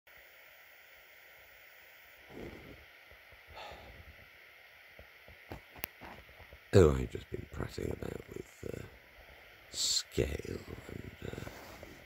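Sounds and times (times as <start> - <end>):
room tone hiss: 0.1 - 12.0.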